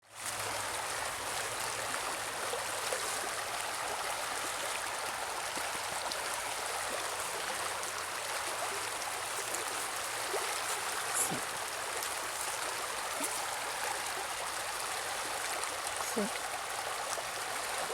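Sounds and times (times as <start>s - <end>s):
river rushing over rocks: 0.4s - 17.9s.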